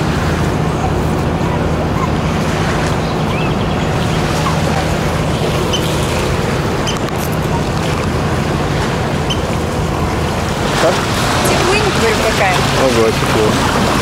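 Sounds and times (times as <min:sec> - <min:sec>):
outboard motor humming: 0:00.0 - 0:14.0
wind and water hiss: 0:00.0 - 0:14.0.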